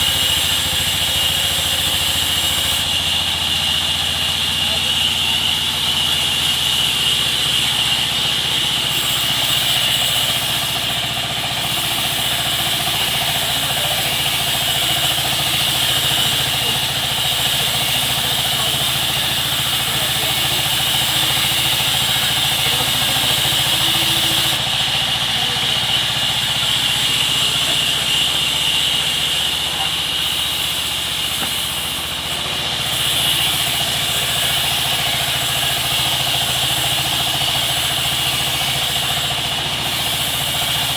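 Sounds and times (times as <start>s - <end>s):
sawmill engine humming: 0.0s - 40.9s.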